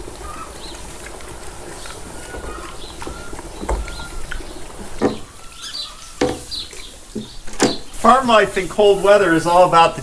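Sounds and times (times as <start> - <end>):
pigs squeaking: 0.0 - 9.2
pigs rustling through straw: 0.0 - 10.0.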